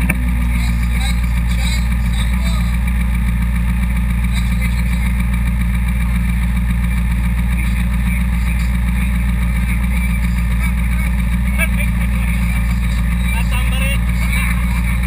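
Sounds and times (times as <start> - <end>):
buggy engine idling: 0.0 - 15.0.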